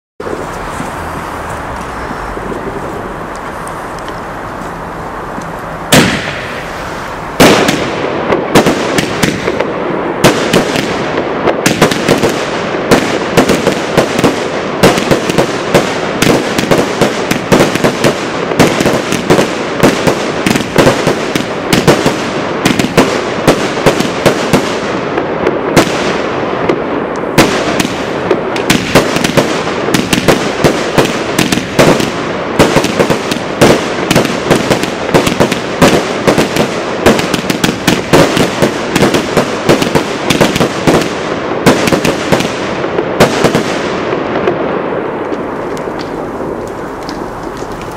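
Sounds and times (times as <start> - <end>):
firework bangs: 0.2 - 47.9.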